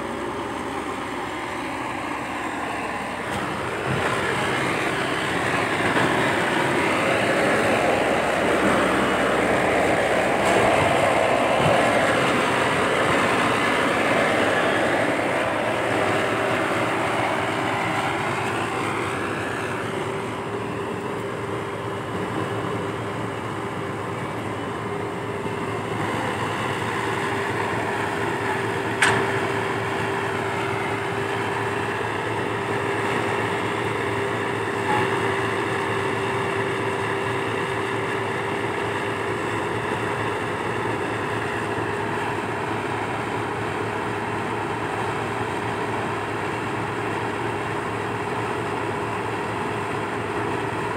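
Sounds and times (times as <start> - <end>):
excavator diesel engine whining: 0.0 - 50.9.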